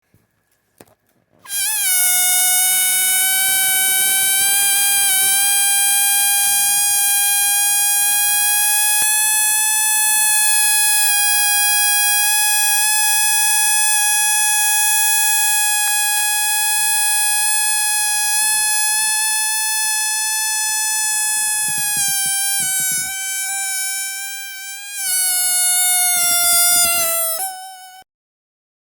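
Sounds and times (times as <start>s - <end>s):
balloon deflating squeal: 1.4s - 28.1s.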